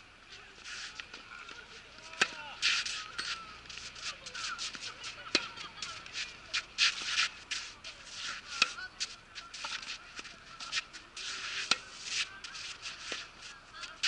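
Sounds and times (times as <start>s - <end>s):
shoes sliding on clay: 0.3s - 14.0s
racket hitting tennis ball: 0.7s - 14.0s
tennis ball bouncing: 1.0s - 14.0s.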